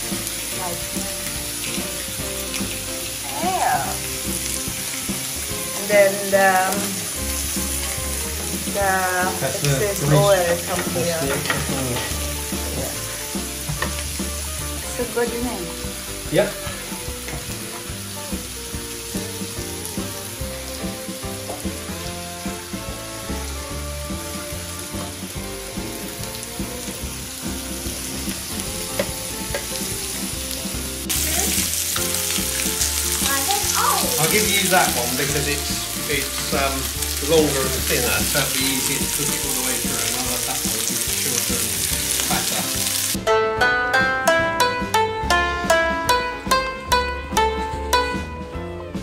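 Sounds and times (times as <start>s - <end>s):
food sizzling on a grill: 0.0s - 43.2s.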